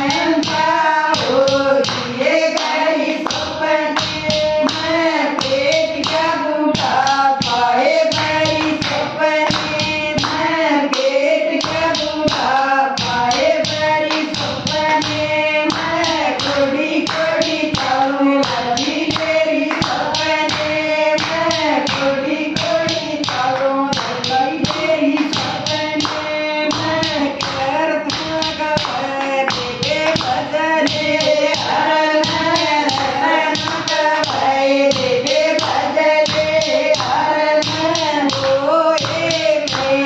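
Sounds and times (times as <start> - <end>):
hand-clapping: 0.0 - 40.0
women singing in unison: 0.0 - 40.0.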